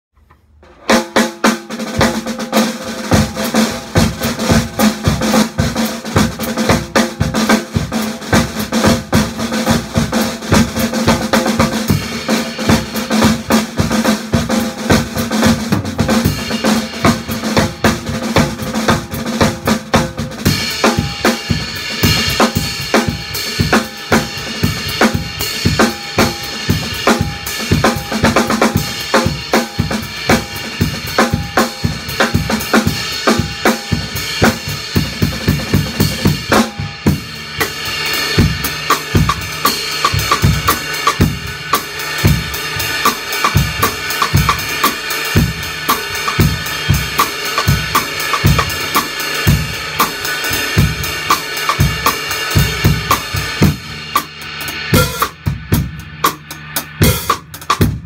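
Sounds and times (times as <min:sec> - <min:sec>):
drum kit playing fast groove: 0:00.2 - 0:58.0.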